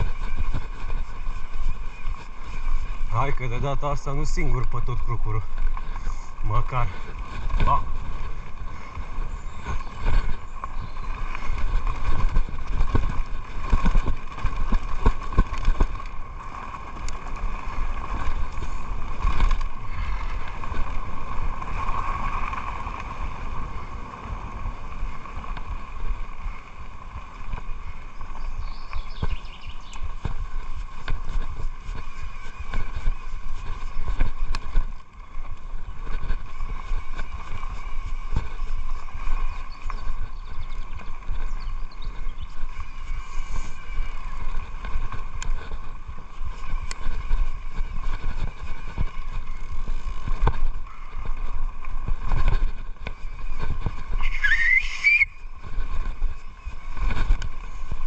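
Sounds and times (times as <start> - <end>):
bike tyres rumbling on dirt: 0.0 - 58.0
bike knocks and rattles: 4.1 - 24.0, 24.7 - 54.4.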